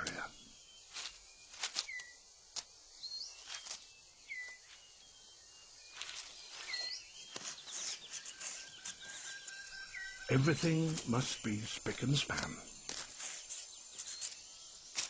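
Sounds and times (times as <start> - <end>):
leaf litter rustling: 0.0 - 5.0, 5.9 - 15.0
insects hissing: 0.0 - 15.0.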